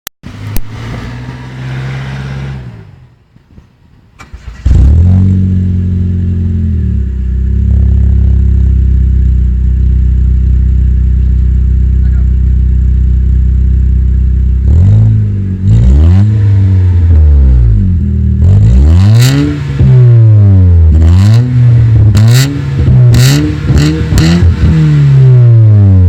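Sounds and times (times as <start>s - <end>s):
car engine revving and idling: 0.2s - 3.3s, 4.2s - 26.0s.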